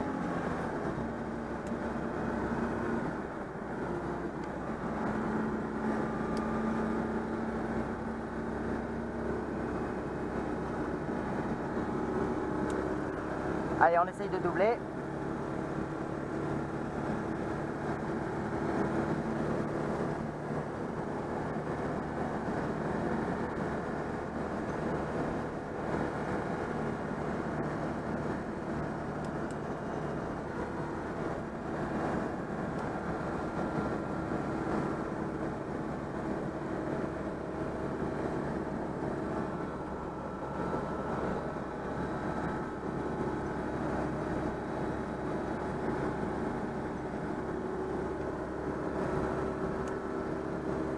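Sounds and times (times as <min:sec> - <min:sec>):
car engine at full throttle: 0:00.0 - 0:50.9
road and wind noise: 0:00.0 - 0:50.9.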